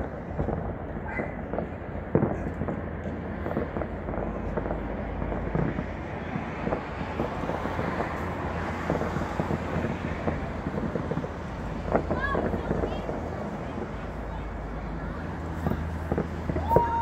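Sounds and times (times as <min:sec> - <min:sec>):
distant fireworks crackling: 0:00.0 - 0:17.0
wind buffeting microphone: 0:00.0 - 0:17.0.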